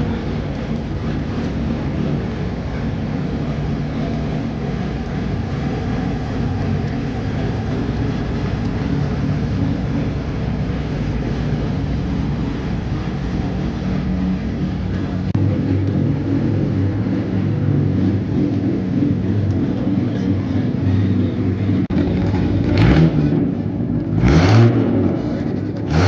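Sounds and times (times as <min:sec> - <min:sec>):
car engine rumbling unmuffled: 0:00.0 - 0:26.0.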